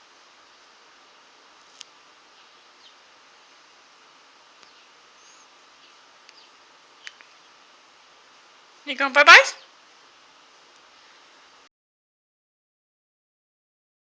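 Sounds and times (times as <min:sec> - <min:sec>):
faint steady hiss: 0:00.0 - 0:11.7.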